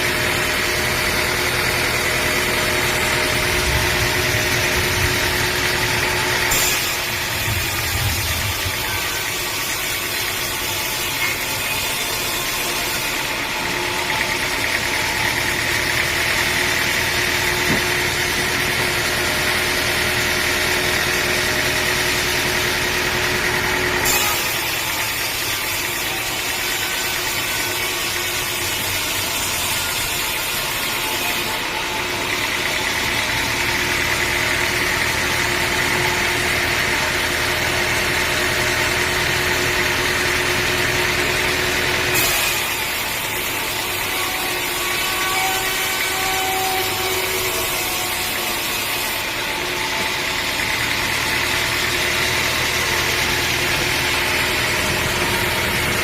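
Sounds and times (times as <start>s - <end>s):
saw whine: 0.0s - 56.0s
sawmill engine running: 0.0s - 56.0s.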